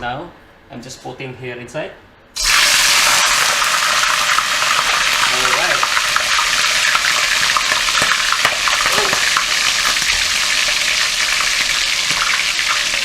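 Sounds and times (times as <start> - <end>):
chicken deep-frying in oil: 2.4 - 13.0.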